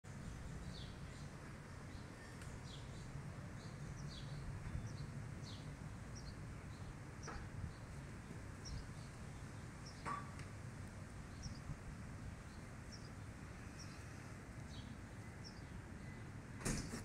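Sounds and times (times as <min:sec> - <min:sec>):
wild birds chirping: 0:00.1 - 0:17.0.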